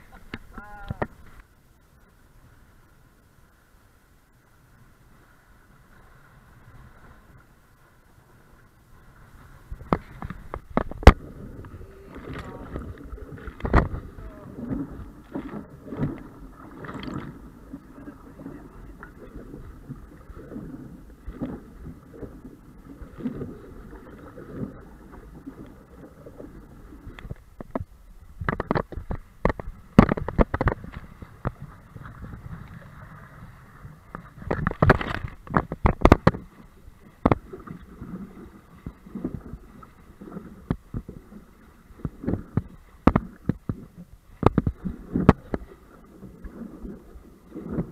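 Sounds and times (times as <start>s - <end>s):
rush of wind and water: 0.0s - 47.9s
waves slapping boat bow: 0.0s - 47.9s.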